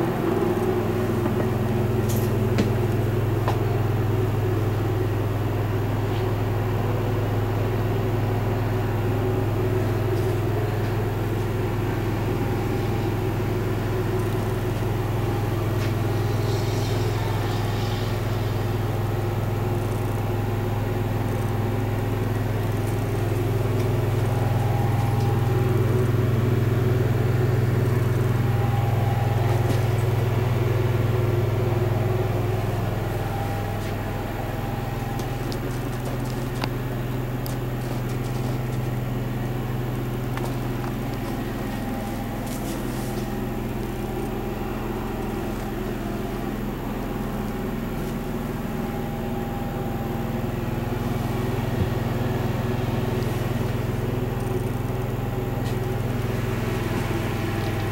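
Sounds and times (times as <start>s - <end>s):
motor humming: 0.0s - 57.9s.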